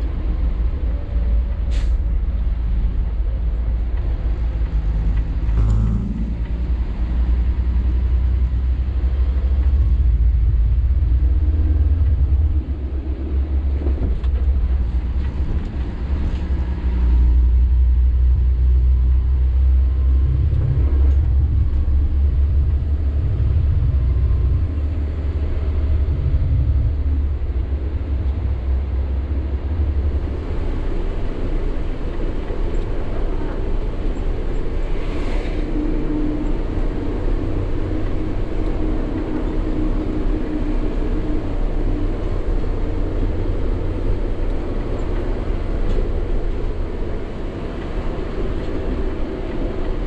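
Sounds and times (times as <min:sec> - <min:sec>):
truck engine and road rumble: 0:00.0 - 0:50.0.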